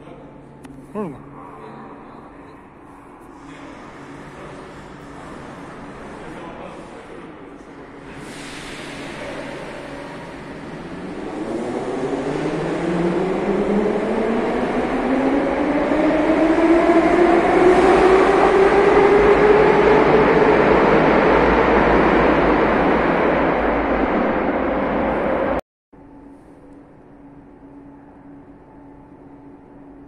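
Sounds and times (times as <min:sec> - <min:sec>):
train rumble: 0:01.4 - 0:30.0.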